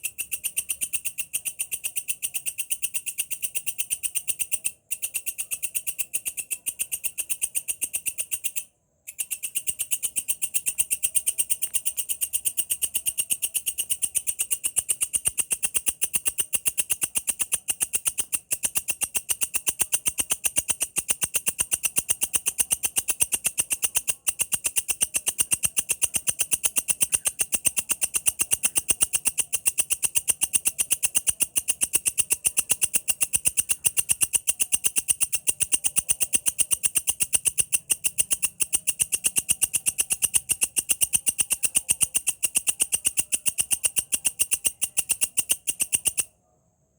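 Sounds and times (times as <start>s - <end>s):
insect chirping: 0.0s - 46.3s.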